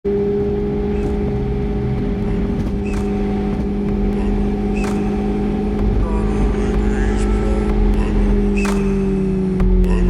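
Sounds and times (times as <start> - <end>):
car engine idling: 0.1 - 10.0.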